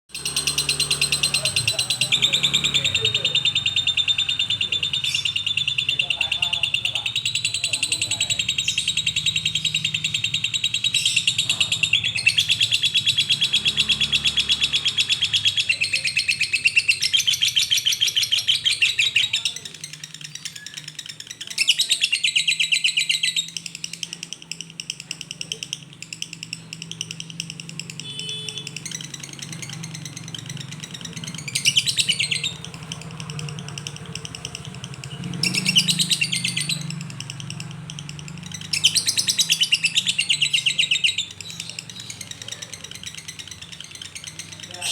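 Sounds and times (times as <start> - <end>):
lovebird chattering: 0.1 - 44.9.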